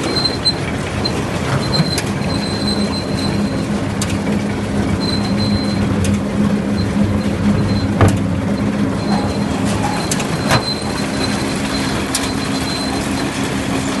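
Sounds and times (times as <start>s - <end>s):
baler mechanical hum: 0.0s - 14.0s.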